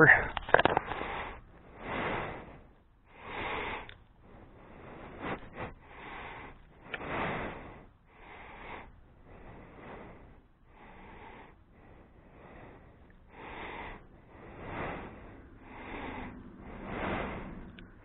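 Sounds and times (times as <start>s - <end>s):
man breathing: 0.0s - 18.0s.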